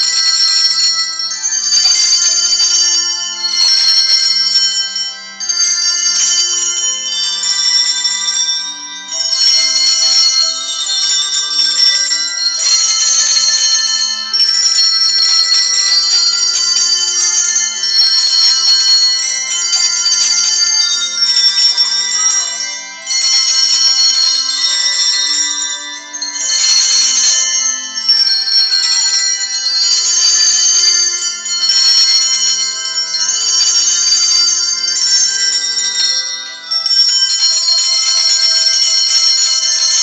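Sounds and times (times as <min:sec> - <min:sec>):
handbells ringing a tune: 0:00.0 - 0:40.0.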